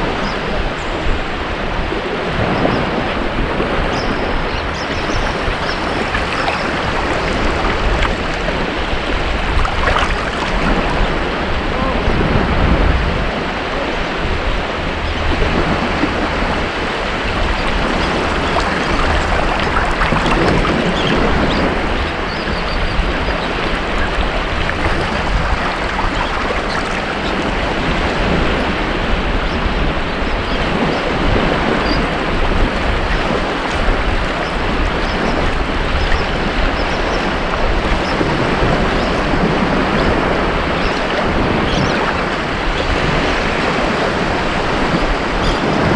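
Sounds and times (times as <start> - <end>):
ocean surf washing on beach: 0.0 - 36.6, 37.8 - 45.9.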